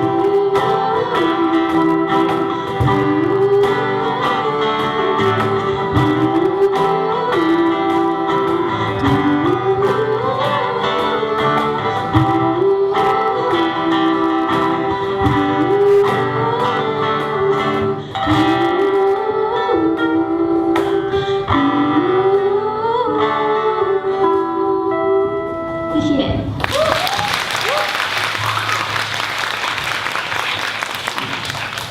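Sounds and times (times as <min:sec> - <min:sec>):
live band guitar music: 0:00.0 - 0:31.9.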